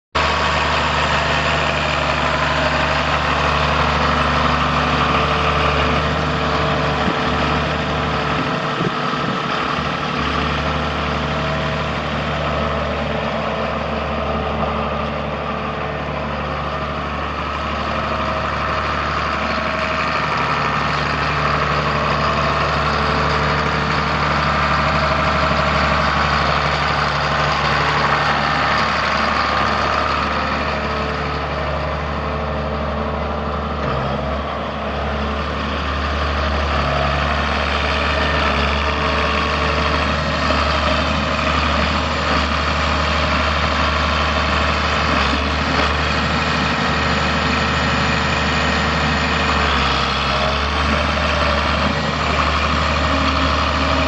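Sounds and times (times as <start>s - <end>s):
tractor diesel engine idling: 0.2s - 54.0s.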